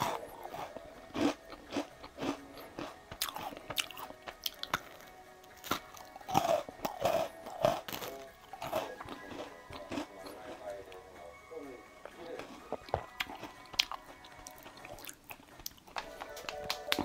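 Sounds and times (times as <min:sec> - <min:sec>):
person biting and chewing pastry: 0:00.0 - 0:10.6, 0:12.4 - 0:17.0
quiet background music: 0:00.0 - 0:17.0.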